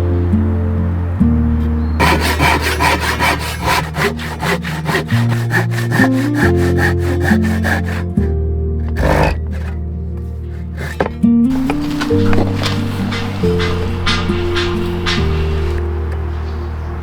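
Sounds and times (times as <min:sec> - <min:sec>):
soft background music: 0:00.0 - 0:17.0
hand saw cutting wood: 0:02.0 - 0:16.0.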